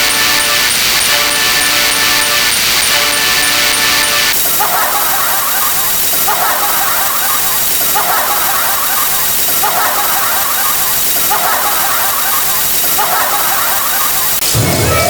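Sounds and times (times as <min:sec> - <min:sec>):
steady hiss: 0:00.0 - 0:14.7.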